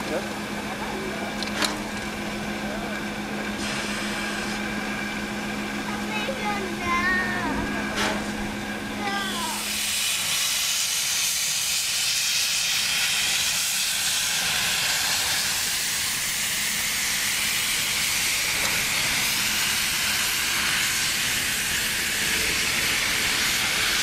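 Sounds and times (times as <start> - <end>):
steam locomotive venting steam: 0.0 - 24.0.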